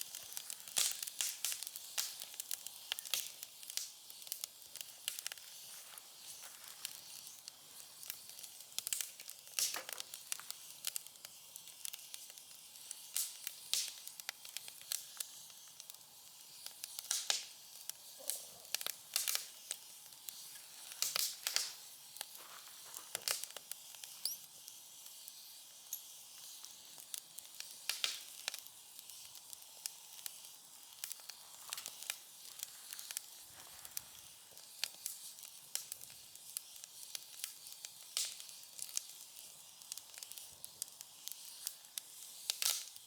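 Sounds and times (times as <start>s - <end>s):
faint steady hiss: 0.0s - 43.0s
firewood crackling and popping: 0.0s - 43.0s.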